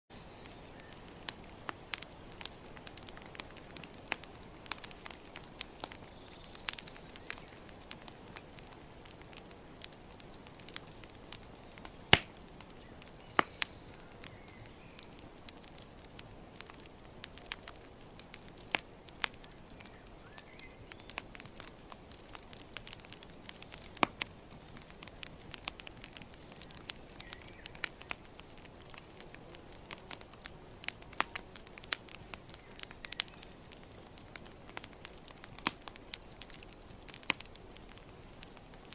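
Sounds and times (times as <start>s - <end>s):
low steady hiss: 0.1s - 38.9s
wood crackling and popping: 0.1s - 38.9s.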